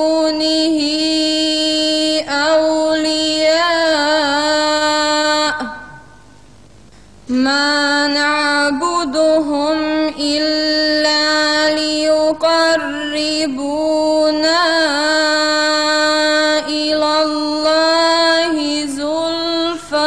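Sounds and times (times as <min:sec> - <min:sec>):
woman chanting recitation: 0:00.0 - 0:06.2, 0:07.3 - 0:20.0.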